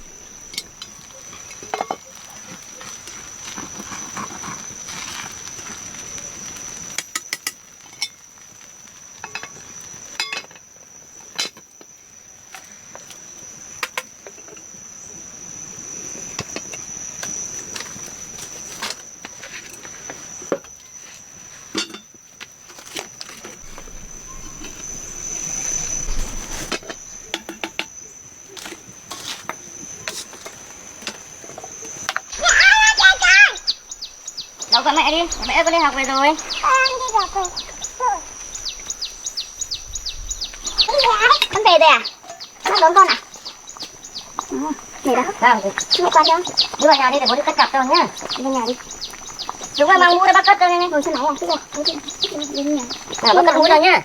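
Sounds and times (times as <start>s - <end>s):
insects shrilling: 0.0s - 54.0s.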